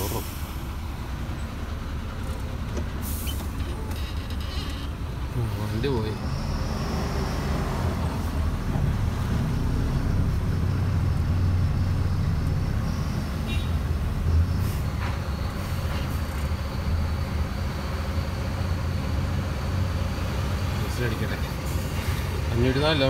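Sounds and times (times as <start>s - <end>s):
diesel lorry engine idling: 0.0s - 23.0s.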